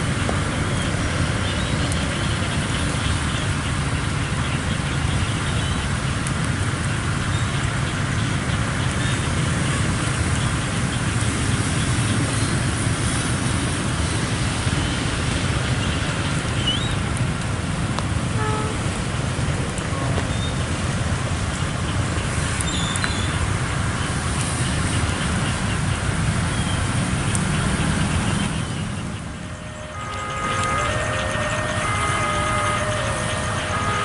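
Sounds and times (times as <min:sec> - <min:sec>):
motorcycle engines: 0:00.0 - 0:34.0.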